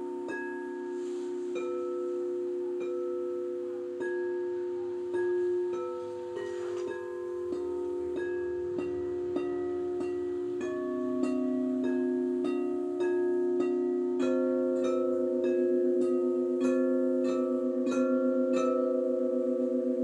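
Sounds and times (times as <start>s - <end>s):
crystal singing bowls ringing: 0.0s - 20.0s.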